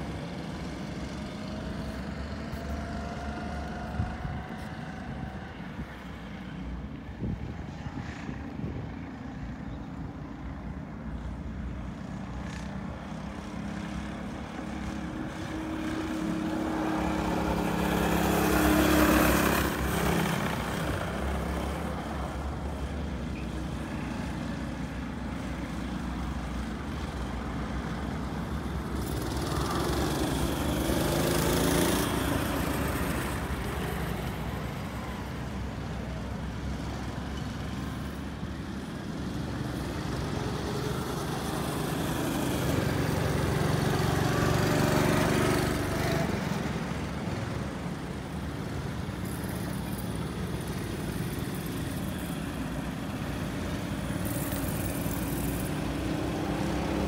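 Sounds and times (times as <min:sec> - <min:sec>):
go-karts passing close: 0:00.0 - 0:10.4, 0:11.0 - 0:57.0
go-kart engines buzzing: 0:00.0 - 0:57.0.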